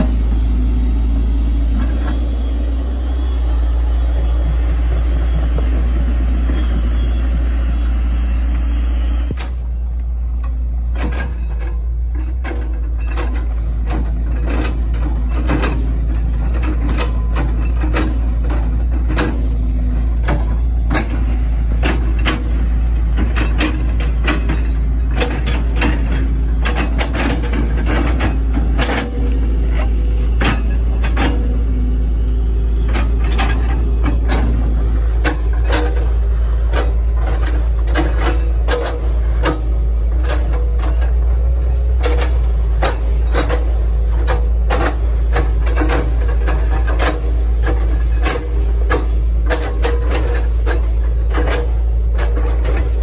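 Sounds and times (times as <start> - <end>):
excavator diesel engine running: 0.0 - 53.0
machine knocks and clacks: 4.3 - 7.8, 10.3 - 31.8, 32.8 - 53.0.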